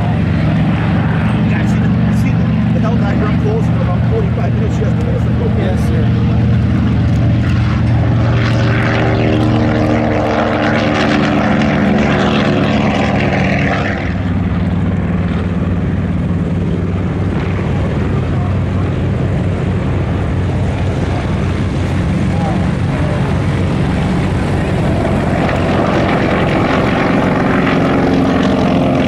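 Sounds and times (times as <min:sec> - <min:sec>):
radial piston engine with propeller drone: 0:00.0 - 0:29.0.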